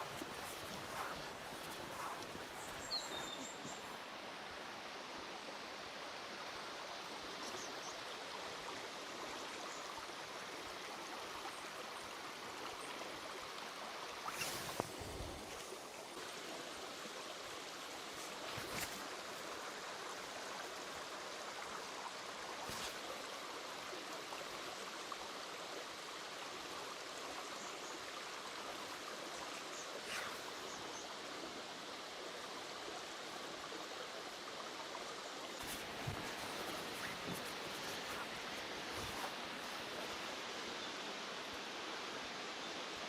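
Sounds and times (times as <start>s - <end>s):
forest stream rushing: 0.0s - 43.0s.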